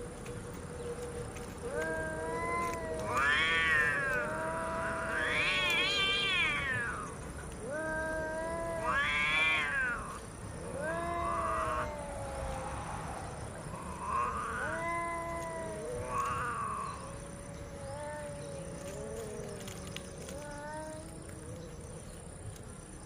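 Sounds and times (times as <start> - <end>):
cats yowling: 1.4 - 22.6.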